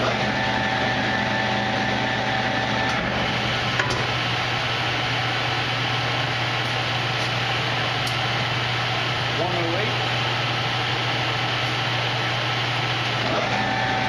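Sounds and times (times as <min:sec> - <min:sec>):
lathe motor hum: 0:00.0 - 0:14.0.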